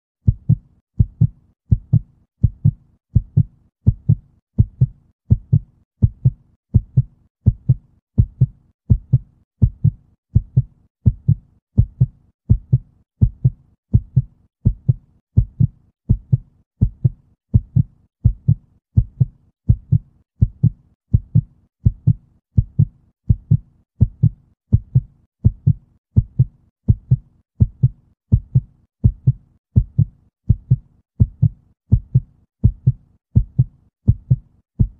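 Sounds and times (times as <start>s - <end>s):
human heartbeat: 0.2s - 34.9s.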